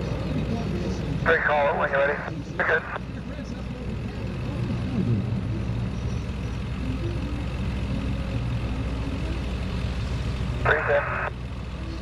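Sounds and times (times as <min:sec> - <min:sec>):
propeller plane engines droning overhead: 0:00.0 - 0:12.0.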